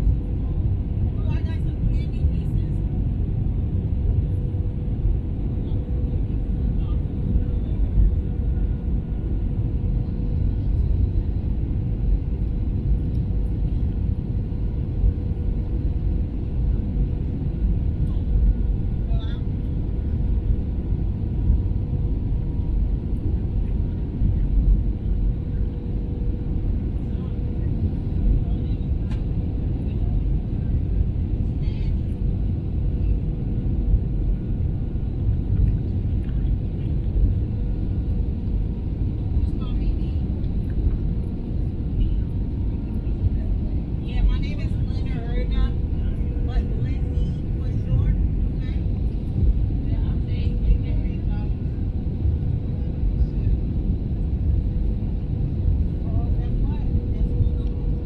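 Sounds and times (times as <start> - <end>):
cabin engine and airflow rumble: 0.0 - 58.0.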